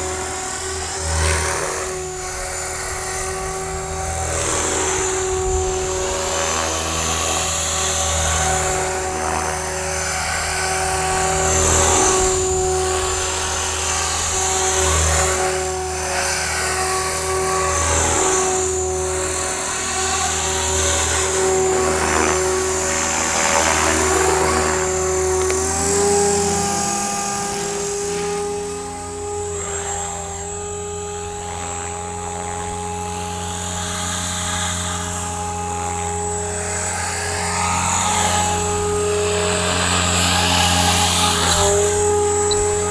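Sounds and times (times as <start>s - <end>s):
rc helicopter motor and rotor whine: 0.0s - 42.9s.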